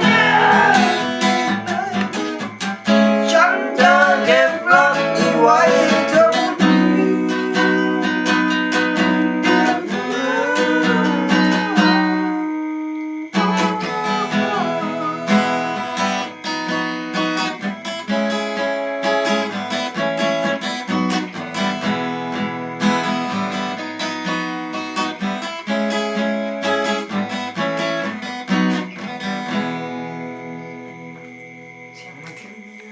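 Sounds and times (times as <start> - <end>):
acoustic guitar instrumental music: 0.0 - 32.9.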